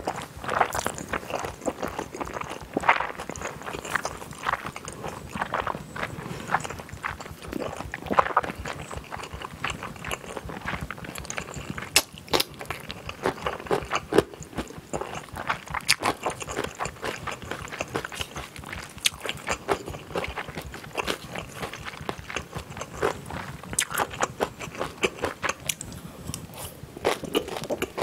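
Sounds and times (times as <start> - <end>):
chewing and crunching: 0.0 - 28.0.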